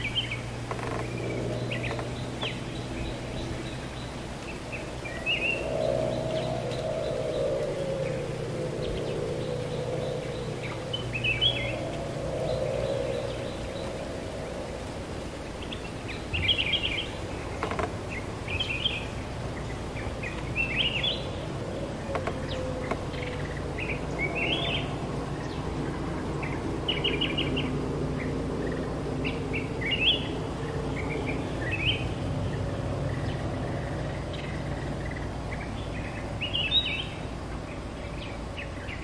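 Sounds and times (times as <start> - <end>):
birds singing: 0.0 - 39.0.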